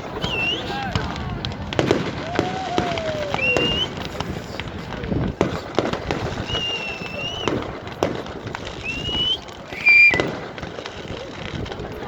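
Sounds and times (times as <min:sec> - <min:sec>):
whistling firework shells: 0:00.0 - 0:04.8, 0:05.4 - 0:12.0
fireworks banging and crackling: 0:00.0 - 0:12.0.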